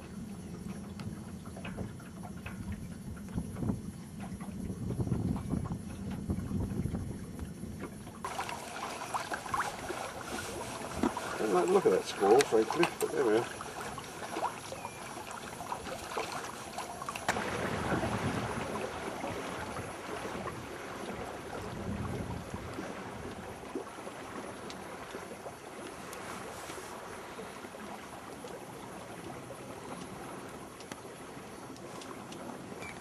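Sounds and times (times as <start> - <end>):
water and wind rushing: 0.0 - 33.0.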